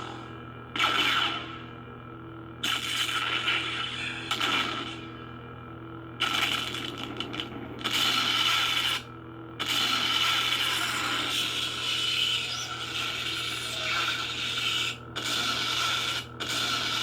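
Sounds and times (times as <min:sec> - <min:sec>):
lightsaber blade hum: 0:00.0 - 0:01.8, 0:02.6 - 0:05.4, 0:07.8 - 0:17.0
loud noisy lightsaber effects: 0:00.0 - 0:01.8, 0:02.6 - 0:05.4, 0:06.2 - 0:17.0.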